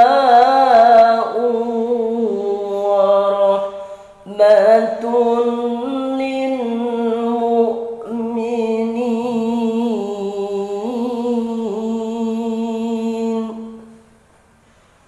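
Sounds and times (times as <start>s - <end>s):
man reciting melodically: 0.0s - 13.9s.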